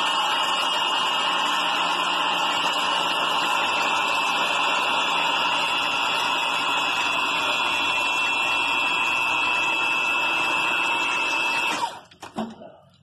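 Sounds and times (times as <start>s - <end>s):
hydraulic pump motor whining: 0.0s - 12.8s.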